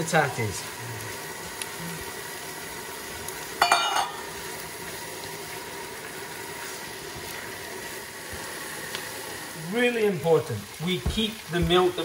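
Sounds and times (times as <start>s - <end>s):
vegetables sizzling in butter: 0.0s - 12.0s.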